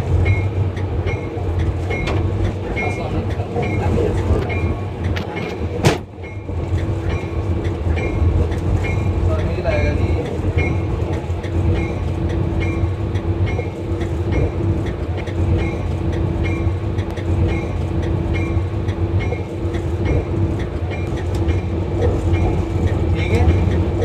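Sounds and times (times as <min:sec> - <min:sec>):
locomotive engine drone: 0:00.0 - 0:24.0.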